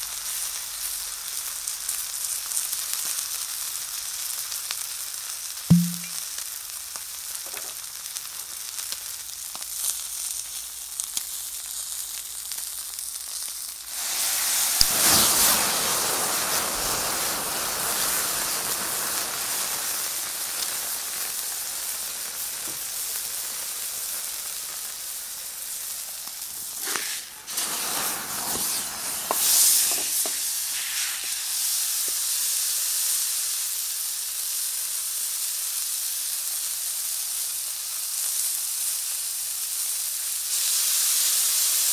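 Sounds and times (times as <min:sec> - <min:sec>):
steak sizzling on griddle: 0:00.0 - 0:41.9.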